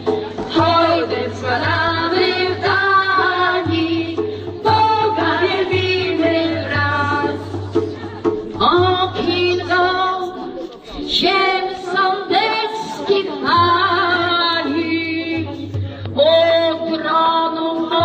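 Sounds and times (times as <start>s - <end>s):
voices singing a hymn: 0.0s - 18.0s.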